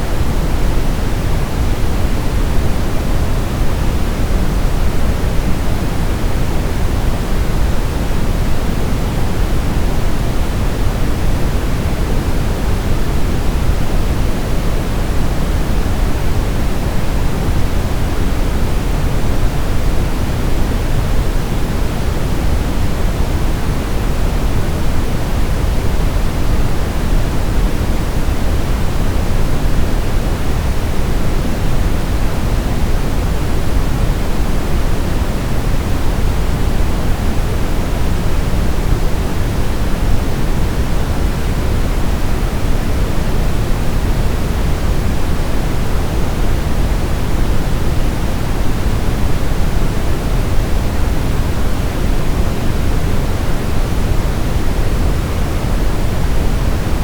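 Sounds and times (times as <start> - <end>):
steady brown noise: 0.0 - 57.0.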